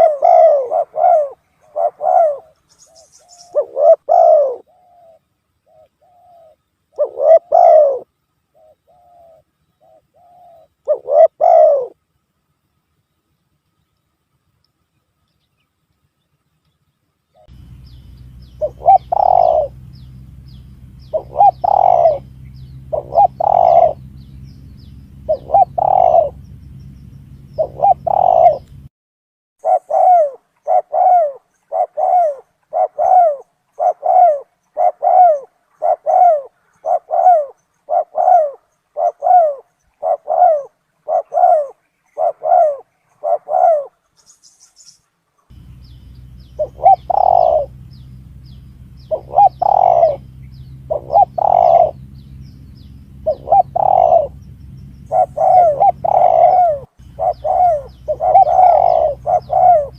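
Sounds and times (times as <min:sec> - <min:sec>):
dove cooing: 0:00.0 - 0:12.0, 0:17.4 - 0:28.9, 0:29.6 - 0:44.1, 0:45.5 - 0:59.9
low steady hum: 0:00.0 - 0:28.9, 0:29.6 - 0:59.9.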